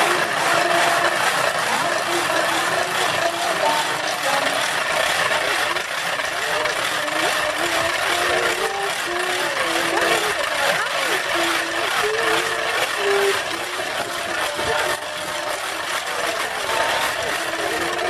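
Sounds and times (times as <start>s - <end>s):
crowd voices overlapping: 0.0s - 18.0s
held voice notes: 0.0s - 18.0s.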